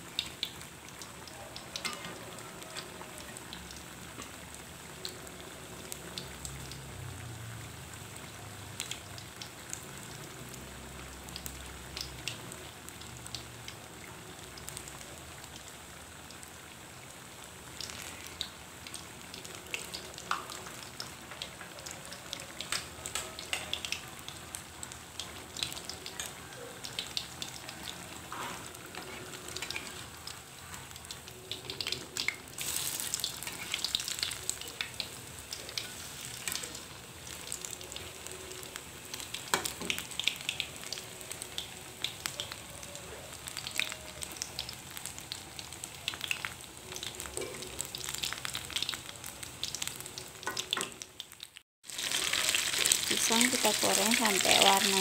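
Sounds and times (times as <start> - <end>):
food deep-frying in oil: 0.0 - 55.0.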